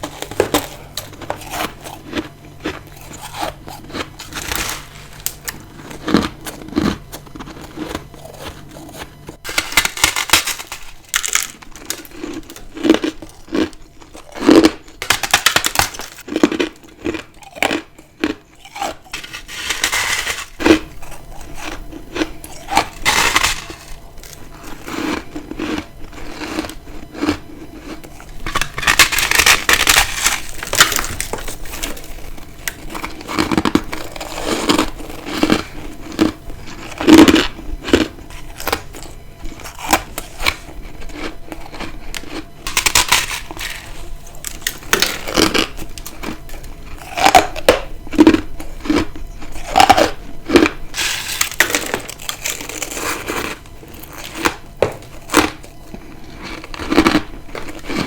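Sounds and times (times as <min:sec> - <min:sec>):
ice crunching when bitten: 0:00.0 - 0:58.0.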